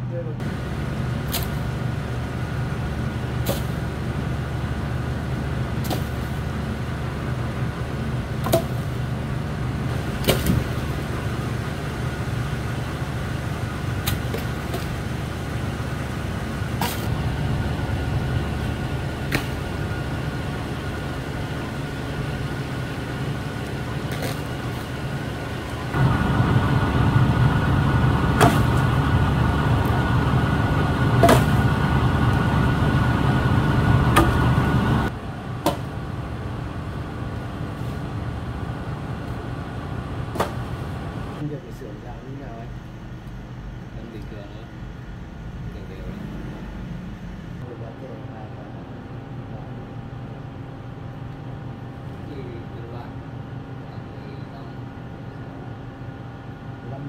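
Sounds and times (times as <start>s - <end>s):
low engine-like drone: 0.0s - 57.0s.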